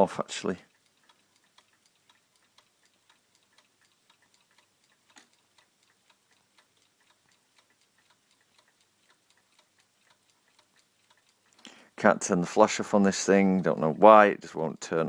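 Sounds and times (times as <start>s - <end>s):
pendulum wall clock ticking: 0.0s - 15.0s.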